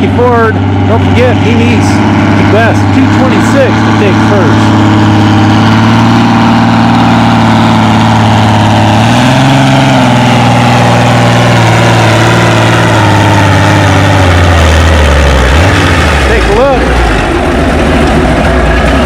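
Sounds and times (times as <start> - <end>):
tractor engine under heavy load: 0.0 - 19.0.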